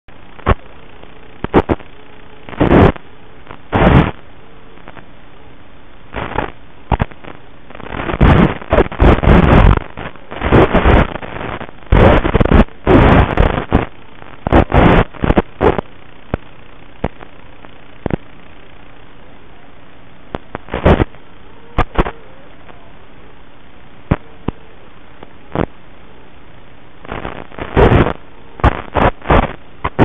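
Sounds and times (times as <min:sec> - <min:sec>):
faint motor hum: 0:00.1 - 0:30.0
steady hiss: 0:00.1 - 0:30.0.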